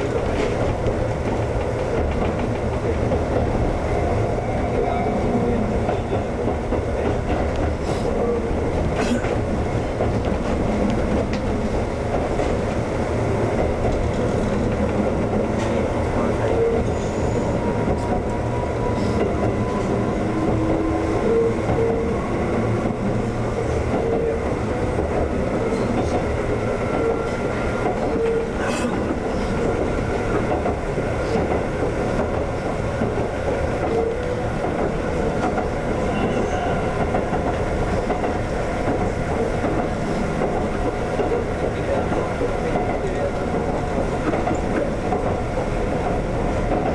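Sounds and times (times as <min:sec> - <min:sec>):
electric train rumbling: 0:00.0 - 0:46.9.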